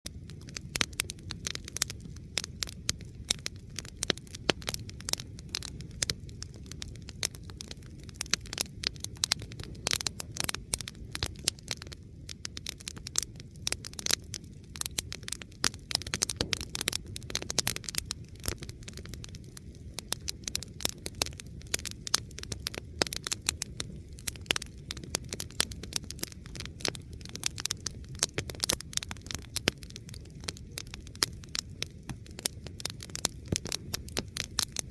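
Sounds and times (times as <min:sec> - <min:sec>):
campfire crackling: 0:00.1 - 0:34.9
fire pops and snaps: 0:00.1 - 0:34.9.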